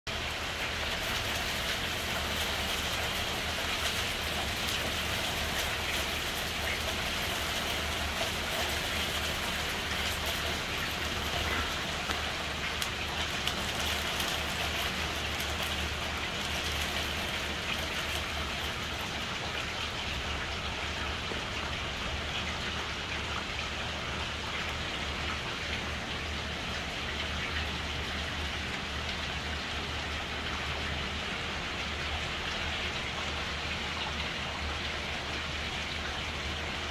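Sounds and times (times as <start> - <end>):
steady rain falling: 0.1 - 36.9.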